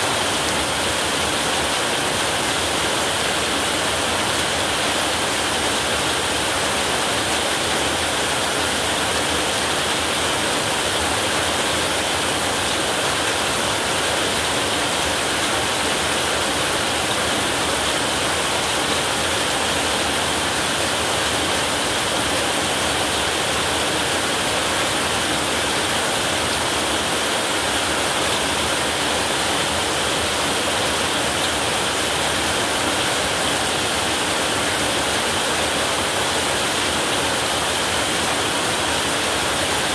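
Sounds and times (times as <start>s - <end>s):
heavy rain on roof: 0.0s - 39.9s.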